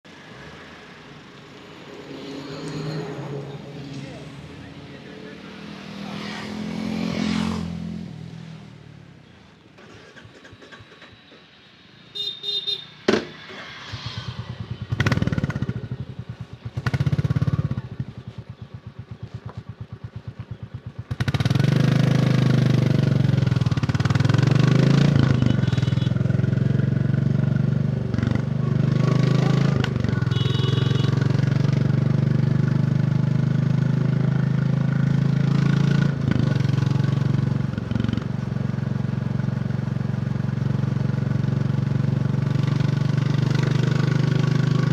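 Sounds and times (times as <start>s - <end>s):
motorcycle engine idling and revving: 0.0s - 44.9s
road and wind noise: 0.0s - 44.9s.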